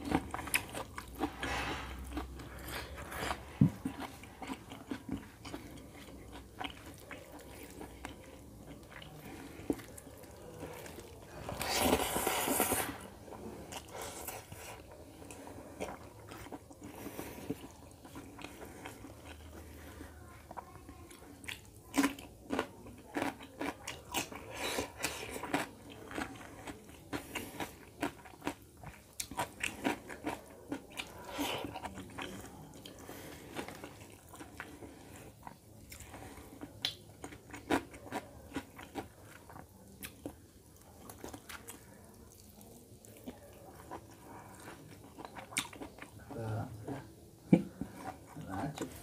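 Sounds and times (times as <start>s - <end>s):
wet chewing: 0.0s - 46.4s.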